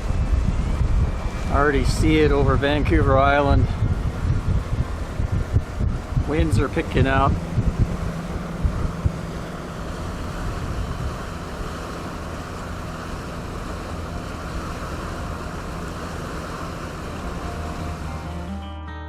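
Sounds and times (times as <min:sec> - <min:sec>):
wind buffeting microphone: 0:00.0 - 0:18.4
water rushing past hull: 0:00.0 - 0:18.6
boat engine drone: 0:00.0 - 0:19.0.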